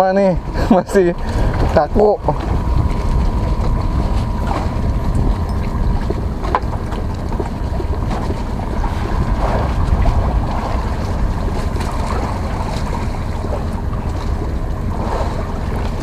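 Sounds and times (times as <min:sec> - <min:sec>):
sea water lapping and splashing: 0:00.0 - 0:16.0
wind buffeting microphone: 0:00.0 - 0:16.0.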